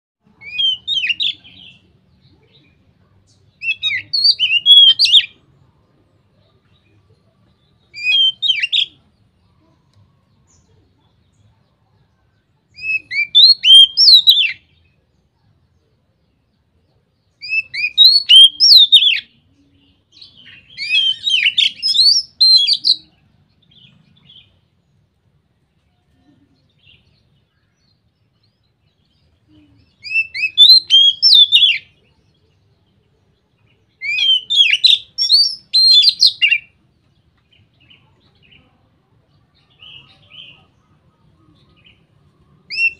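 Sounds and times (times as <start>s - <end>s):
magpie-robin singing: 0.2s - 5.5s, 6.2s - 25.1s, 26.6s - 42.9s.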